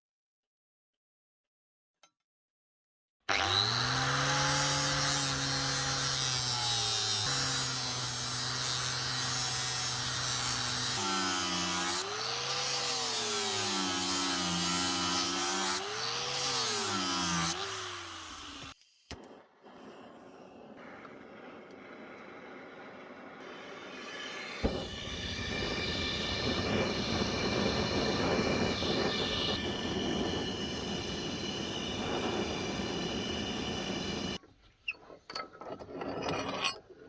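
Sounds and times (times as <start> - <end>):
electric power tool motor running: 3.3 - 34.4.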